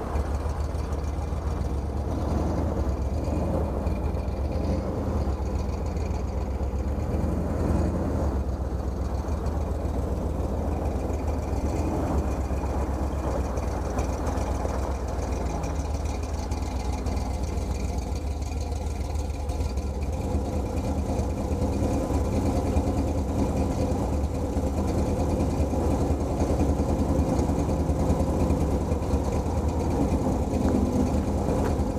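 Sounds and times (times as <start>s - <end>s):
tires rolling on gravel: 0.0s - 31.9s
truck engine running: 0.0s - 31.9s.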